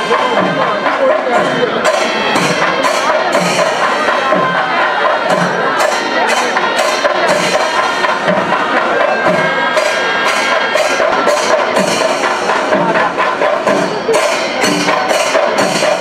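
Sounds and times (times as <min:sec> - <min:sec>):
cymbals clashing: 0:00.0 - 0:16.0
drums beating: 0:00.0 - 0:16.0.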